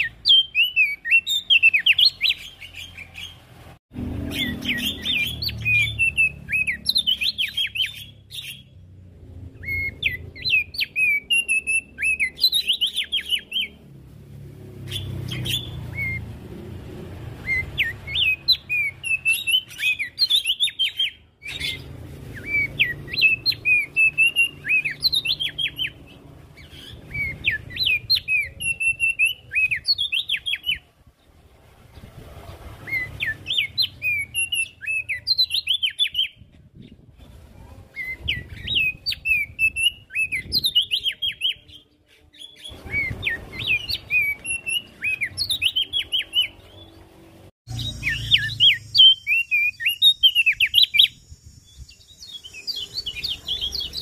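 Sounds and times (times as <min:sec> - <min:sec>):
bird singing high chirps: 0:00.0 - 0:03.4, 0:04.2 - 0:14.0, 0:14.8 - 0:16.4, 0:17.4 - 0:30.9, 0:32.0 - 0:37.1, 0:37.9 - 0:54.0.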